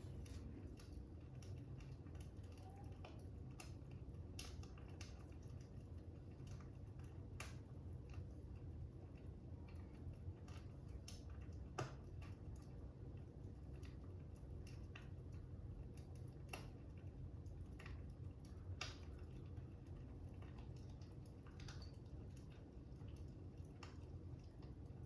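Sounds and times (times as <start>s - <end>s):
faint fire crackling: 0.0s - 25.0s.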